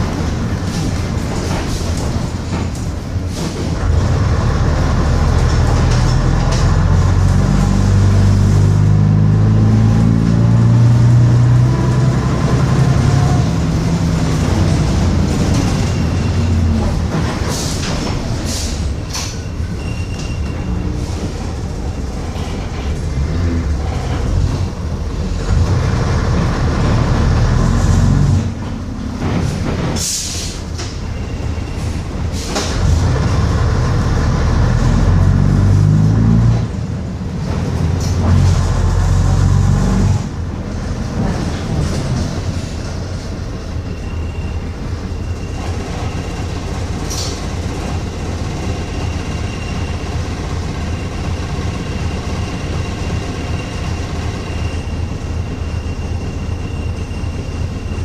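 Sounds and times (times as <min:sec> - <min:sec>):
bus body rattles: 0:00.0 - 0:08.0, 0:11.6 - 0:35.6, 0:36.3 - 0:58.0
bus diesel engine: 0:00.0 - 0:58.0.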